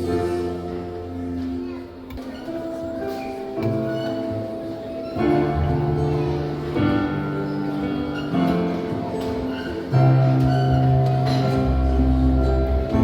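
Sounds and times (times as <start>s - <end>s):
instrumental church music: 0.0s - 13.0s.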